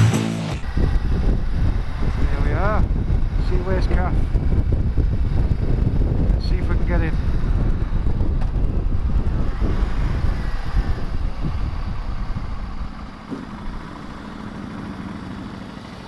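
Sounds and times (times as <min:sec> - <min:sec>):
motorcycle engine: 0:00.0 - 0:16.0
wind buffeting microphone: 0:00.6 - 0:15.9.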